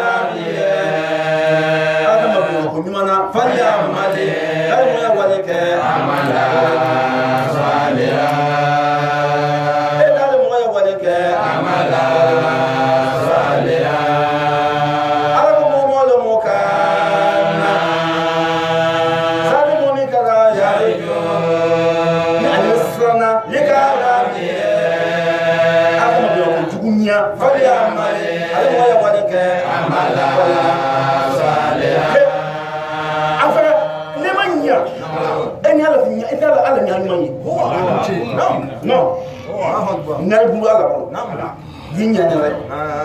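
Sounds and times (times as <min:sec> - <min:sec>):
man chanting: 0:00.0 - 0:43.0.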